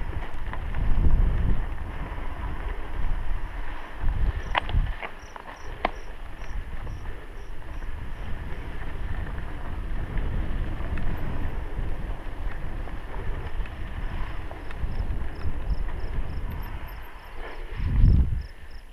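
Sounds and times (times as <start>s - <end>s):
bike clicks and rattles: 0.0s - 18.9s
bike tyres rolling over dirt: 0.0s - 18.9s
wind buffeting camera: 0.0s - 18.9s.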